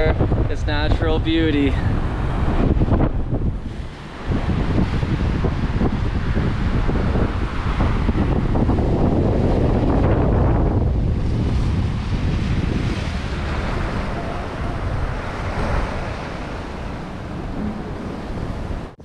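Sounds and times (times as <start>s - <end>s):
surf breaking over rocks: 0.0s - 19.0s
wind buffeting microphone: 0.0s - 19.0s.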